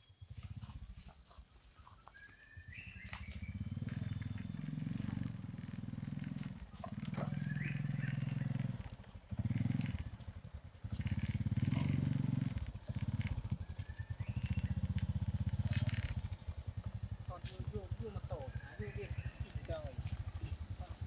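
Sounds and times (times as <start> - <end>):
motorbike engine running: 0.0 - 1.5, 2.6 - 21.0.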